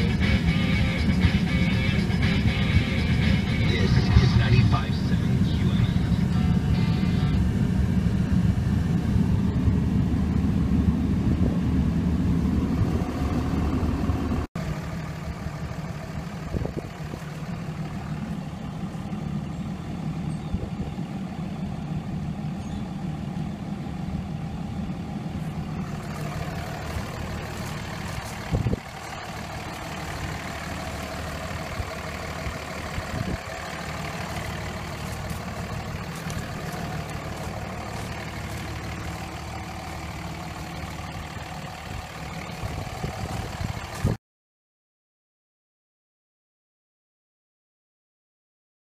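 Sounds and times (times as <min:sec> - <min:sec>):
diesel truck engine idling: 0:00.0 - 0:44.2.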